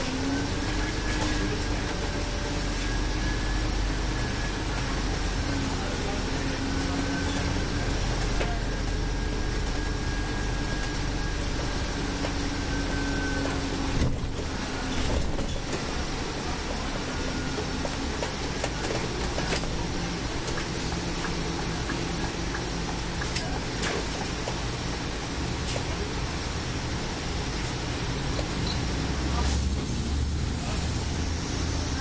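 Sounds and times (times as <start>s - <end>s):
bus engine whining: 0.0s - 32.0s.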